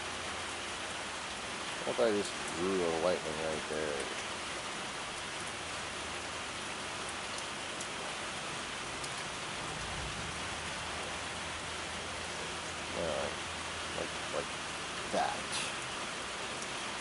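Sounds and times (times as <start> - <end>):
steady rain pattering: 0.0 - 17.0.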